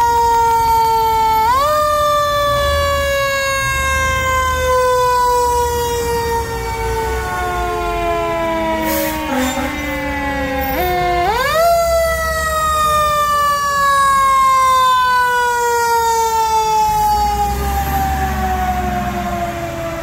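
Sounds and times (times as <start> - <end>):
fire engine rumble: 0.0 - 20.0
fire engine siren: 0.0 - 20.0.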